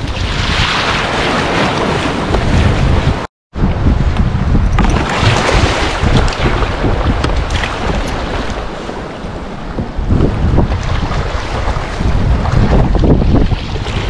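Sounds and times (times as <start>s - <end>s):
river water rushing and lapping: 0.0s - 3.3s, 4.7s - 14.0s
wind buffeting microphone: 0.0s - 14.0s.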